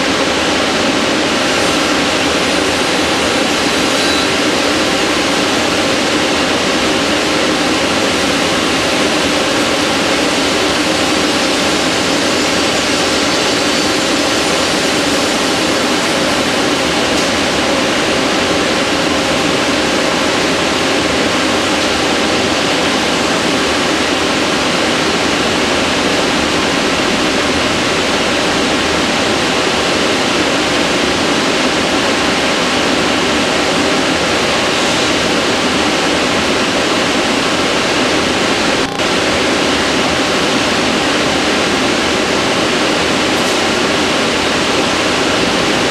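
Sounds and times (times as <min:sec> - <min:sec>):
turning machine rushing noise: 0:00.0 - 0:45.9.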